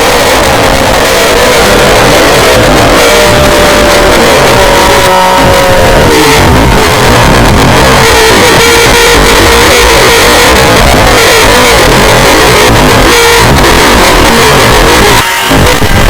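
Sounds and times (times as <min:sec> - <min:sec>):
distorted scream: 0:00.0 - 0:16.0.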